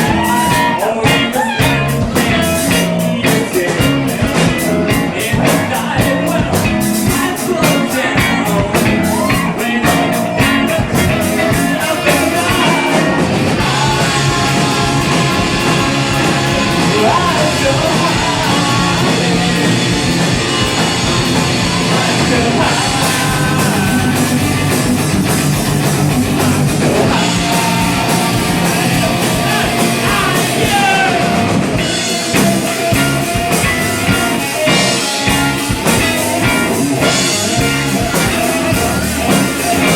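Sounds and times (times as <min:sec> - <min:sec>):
person singing: 0:00.0 - 0:25.1, 0:26.2 - 0:39.9
drums: 0:00.0 - 0:39.9
electric guitar: 0:00.0 - 0:39.9.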